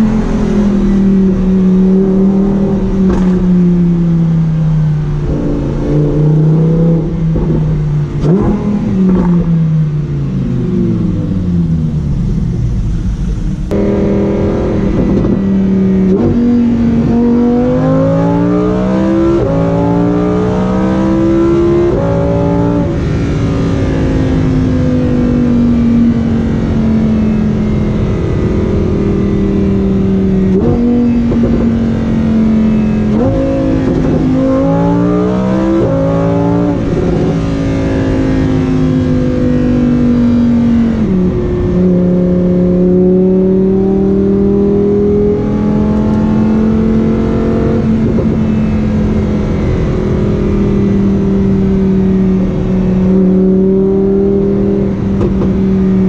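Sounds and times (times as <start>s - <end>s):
sports car accelerating with upshifts: 0.0s - 56.0s.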